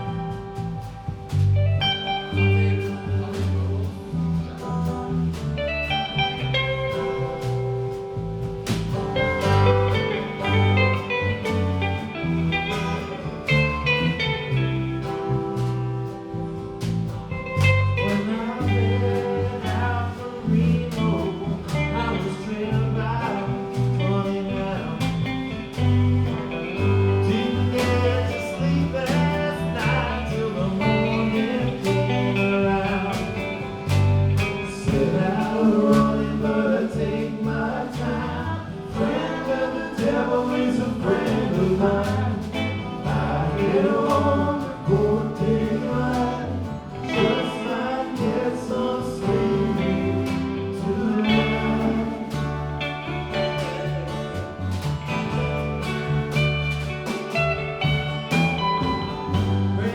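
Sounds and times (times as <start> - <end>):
drums: 0.0 - 59.9
electric guitar: 0.0 - 59.9
live blues band: 0.0 - 59.9
walking bass line: 0.0 - 59.9.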